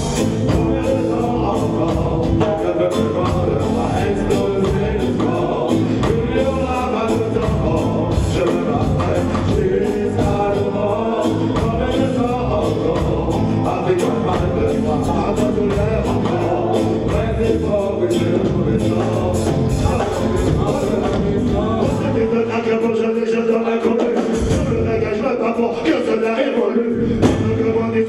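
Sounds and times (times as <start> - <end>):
live reggae band playing: 0.0 - 28.0
person singing: 0.0 - 28.0.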